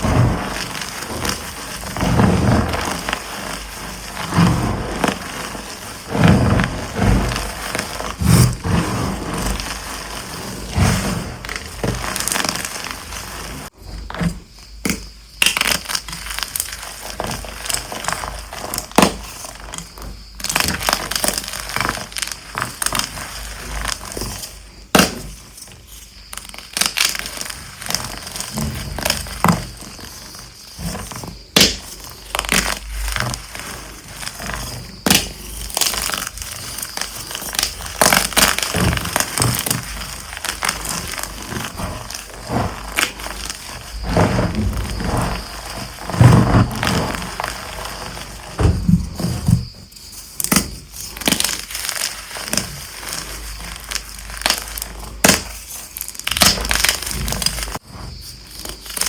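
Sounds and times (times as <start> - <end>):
chalk blocks crushing and cracking: 0.0 - 59.0.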